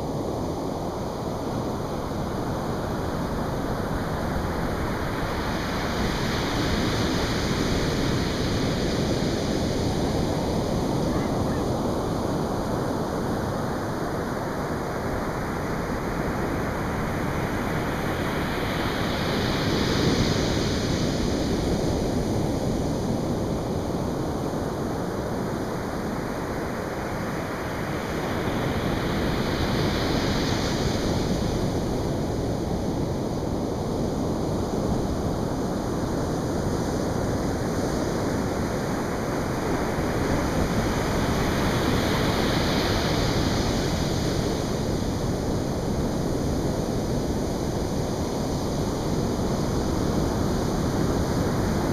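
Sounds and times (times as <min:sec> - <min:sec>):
surf breaking on a beach: 0:00.0 - 0:51.9.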